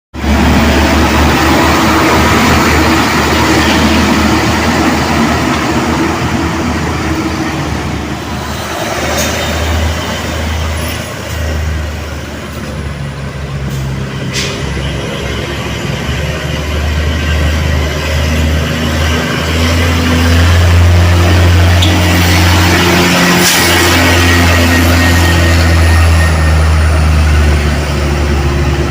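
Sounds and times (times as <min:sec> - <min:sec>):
truck diesel engine labouring: 0:00.2 - 0:28.9.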